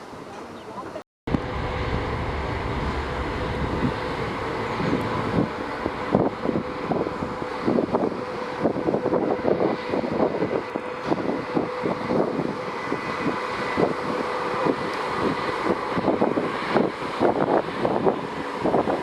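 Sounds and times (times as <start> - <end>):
ferry machinery drone: 1.3 - 19.0
wind buffeting microphone: 1.3 - 19.0.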